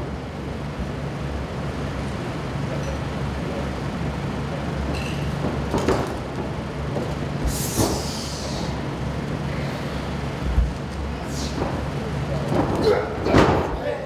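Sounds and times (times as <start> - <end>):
low hum of hall: 0.0 - 14.0.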